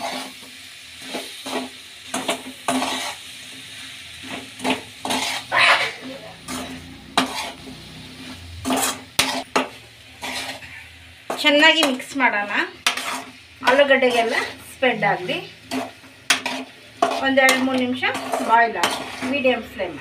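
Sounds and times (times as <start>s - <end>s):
metal spatula scraping a pan: 0.0s - 20.0s
oil sizzling in a pan: 0.0s - 20.0s.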